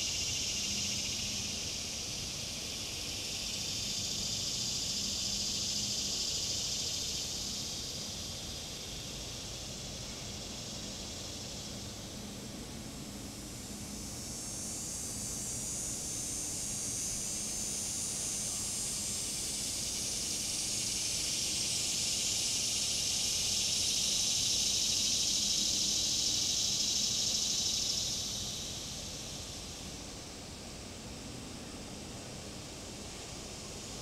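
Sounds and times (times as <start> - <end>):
cicada buzzing: 0.0 - 34.0.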